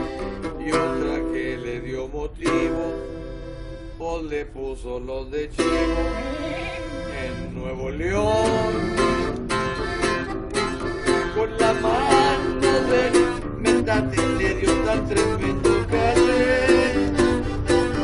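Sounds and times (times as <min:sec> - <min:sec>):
plucked strings: 0:00.0 - 0:04.0, 0:05.6 - 0:18.0
button accordion melody: 0:00.0 - 0:04.5, 0:05.5 - 0:18.0.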